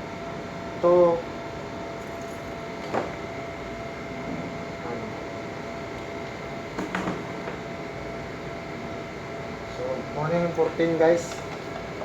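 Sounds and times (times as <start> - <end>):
room hum and hiss: 0.0 - 12.0.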